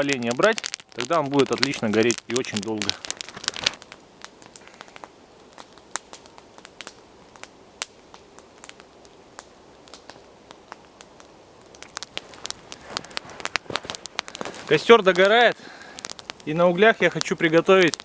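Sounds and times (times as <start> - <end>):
campfire snapping and popping: 0.0 - 18.0
faint fire hiss: 0.0 - 18.0.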